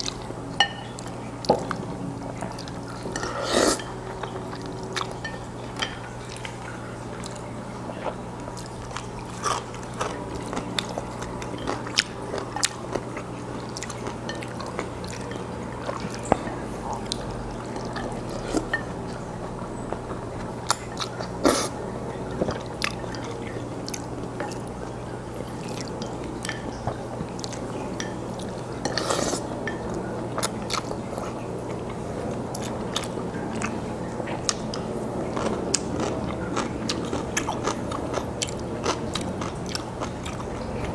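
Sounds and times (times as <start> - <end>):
man chewing noodles: 0.0 - 40.9
steady low hum: 0.0 - 40.9.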